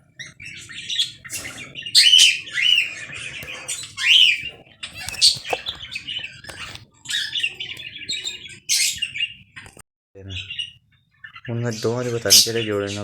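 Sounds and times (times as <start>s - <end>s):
lovebirds chattering: 0.0s - 13.0s.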